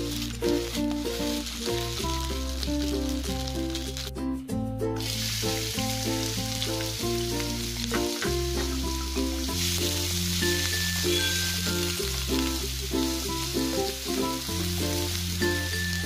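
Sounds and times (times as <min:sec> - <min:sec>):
background music: 0:00.0 - 0:16.0
onions sizzling in oil: 0:00.0 - 0:16.0.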